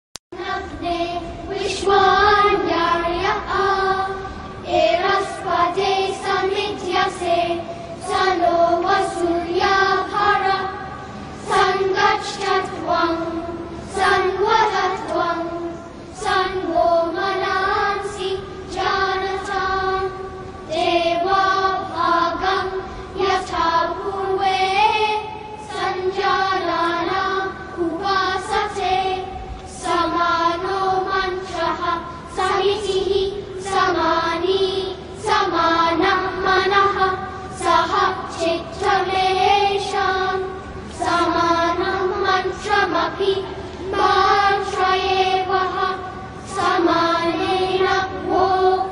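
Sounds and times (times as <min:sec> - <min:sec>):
children's choir chanting: 0:00.3 - 0:48.9.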